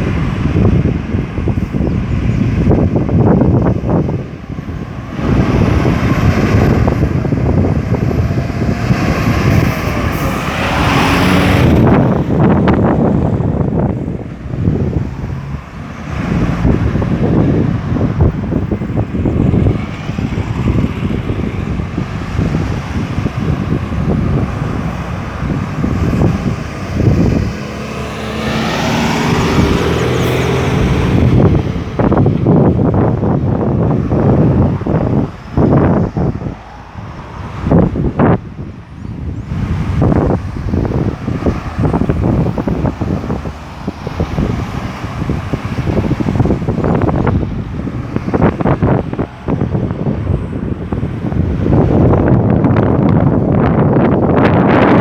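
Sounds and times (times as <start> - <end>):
traffic rumble: 0.0 - 55.0
vehicle passing with rising engine: 2.4 - 38.4, 39.2 - 55.0.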